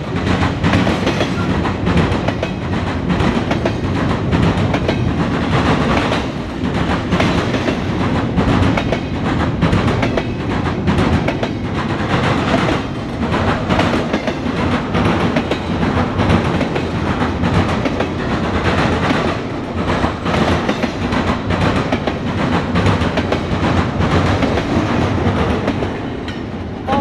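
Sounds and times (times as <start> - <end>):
wheels clacking over rail joints: 0.0 - 26.8
train wheels rumbling on rail: 0.0 - 27.0.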